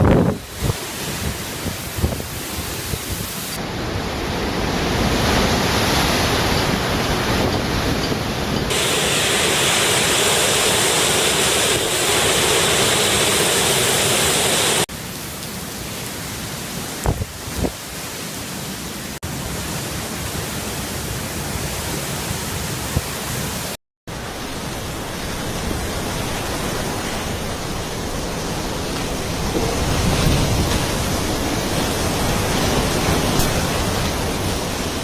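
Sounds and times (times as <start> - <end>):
rain: 0.0 - 35.0
wind: 0.0 - 35.0.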